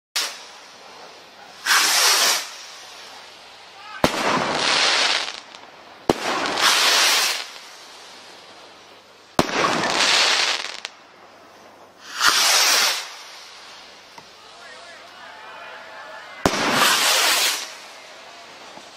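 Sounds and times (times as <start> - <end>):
firework rocket crack: 0.2 - 18.9
firework rocket hissing: 0.2 - 18.9.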